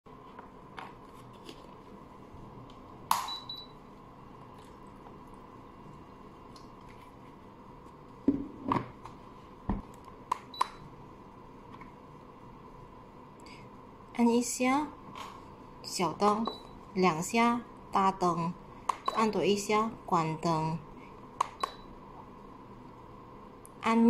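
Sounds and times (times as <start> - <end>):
faint steady high whine: 0.1 - 24.0.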